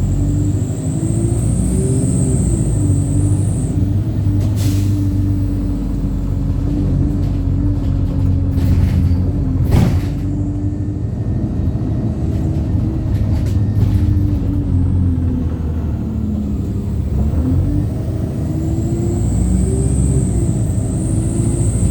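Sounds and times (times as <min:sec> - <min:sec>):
bus engine droning: 0:00.0 - 0:21.9
engine whine: 0:00.0 - 0:21.9.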